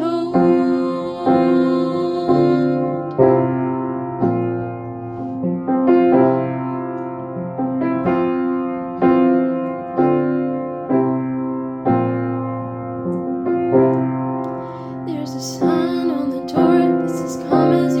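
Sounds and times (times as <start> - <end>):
piano chords ringing: 0.0 - 18.0.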